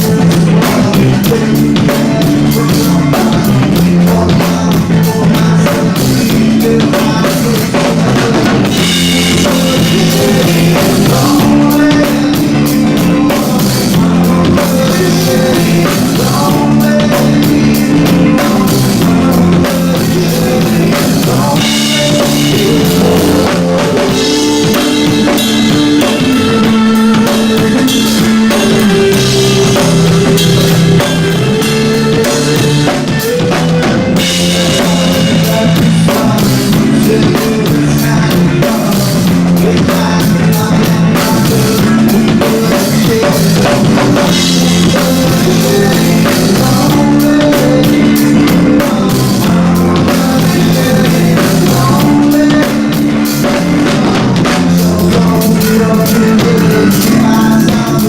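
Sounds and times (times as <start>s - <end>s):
drum kit kick and snare: 0.0s - 58.0s
rock band playing live: 0.0s - 58.0s.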